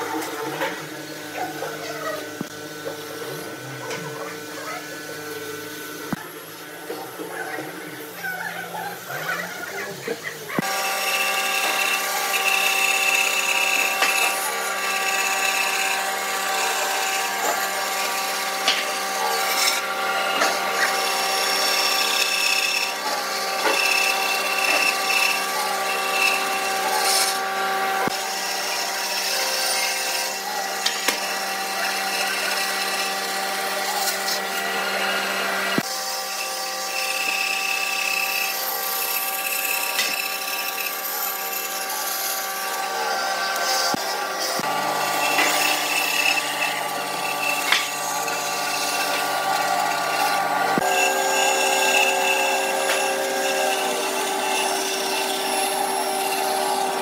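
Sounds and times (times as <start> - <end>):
bandsaw cutting wood: 0.0 - 57.0.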